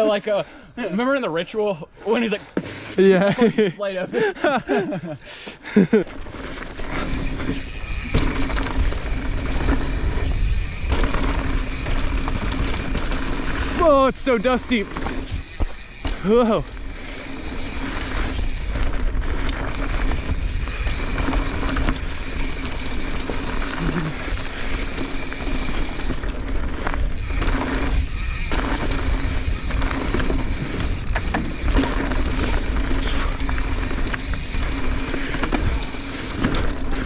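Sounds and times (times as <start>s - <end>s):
bike tyres on dirt trail: 0.0s - 37.0s
bike rattling and knocking: 4.4s - 37.0s
wind noise: 6.1s - 37.0s.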